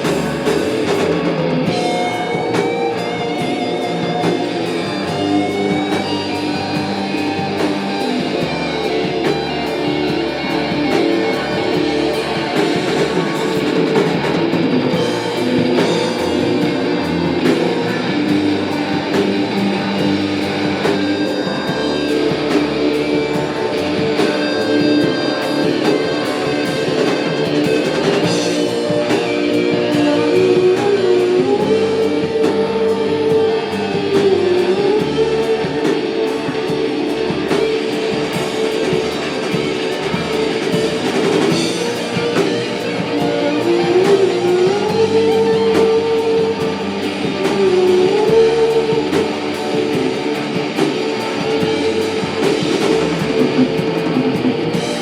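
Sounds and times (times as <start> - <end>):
drum kit: 0.0 - 55.0
guitar with bending notes: 0.0 - 55.0.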